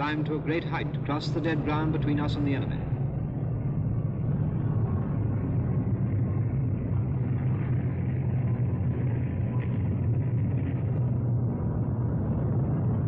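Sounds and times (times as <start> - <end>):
piston aircraft engines droning: 0.0 - 13.0.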